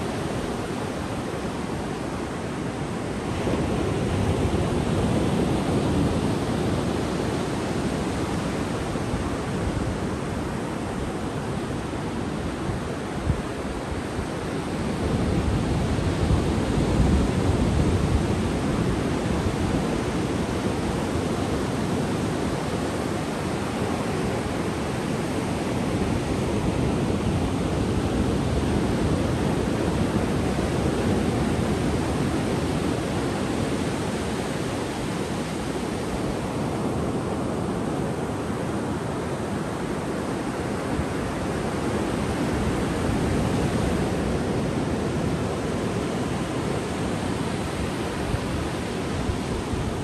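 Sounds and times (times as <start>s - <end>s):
ocean waves breaking on beach: 0.0s - 50.0s.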